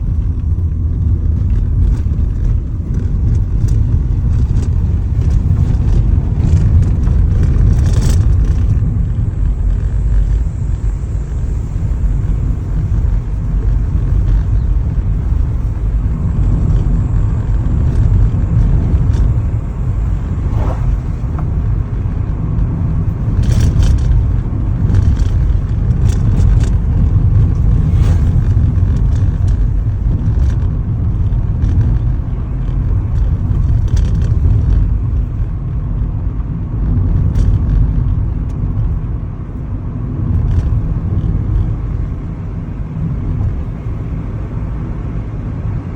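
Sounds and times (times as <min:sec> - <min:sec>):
faint ticks and rattles: 0:00.0 - 0:20.3, 0:21.2 - 0:39.2
moving car rumble: 0:00.0 - 0:45.9
road and wind noise: 0:00.0 - 0:45.9.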